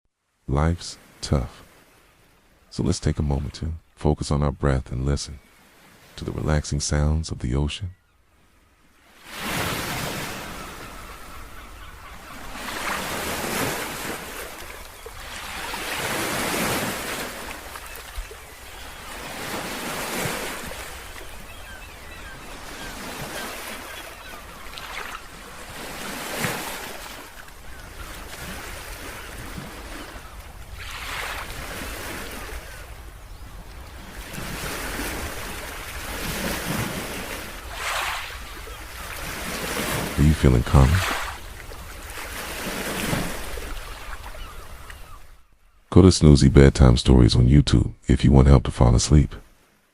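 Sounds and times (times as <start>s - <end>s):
ocean waves breaking: 0.3s - 7.2s, 8.3s - 47.5s.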